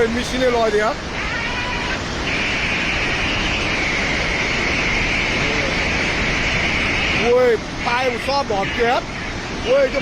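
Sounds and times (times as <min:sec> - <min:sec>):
flash flood torrent rushing: 0:00.0 - 0:10.0.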